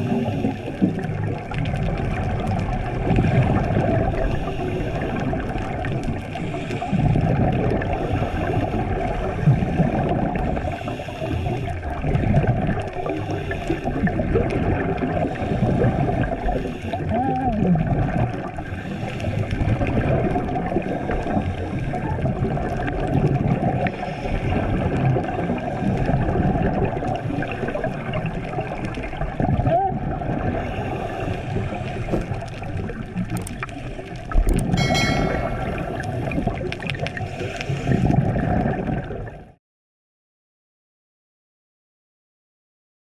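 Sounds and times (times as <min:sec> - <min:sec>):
diver's exhaled bubbles: 0:00.0 - 0:10.8, 0:11.5 - 0:39.6
underwater water rushing: 0:00.0 - 0:39.6.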